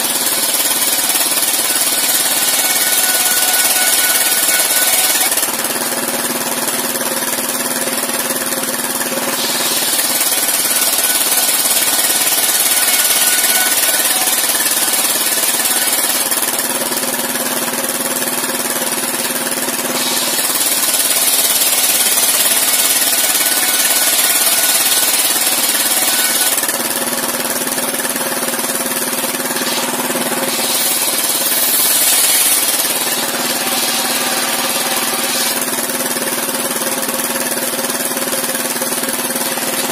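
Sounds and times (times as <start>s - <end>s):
saw blade ripping wood: 0.0s - 17.2s, 19.1s - 38.2s
stationary engine chugging: 0.0s - 39.9s.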